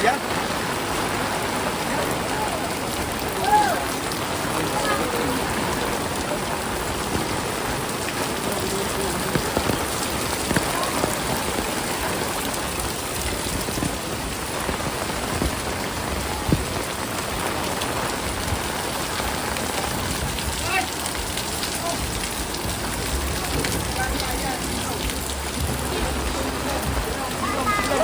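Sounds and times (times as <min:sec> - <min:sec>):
drips splashing: 0:00.0 - 0:28.0
heavy rain: 0:00.0 - 0:28.0.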